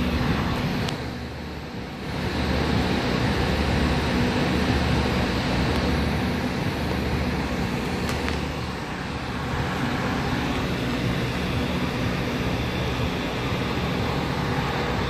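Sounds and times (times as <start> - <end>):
constant rumble: 0.0 - 15.0
vehicle engine droning: 0.0 - 15.0.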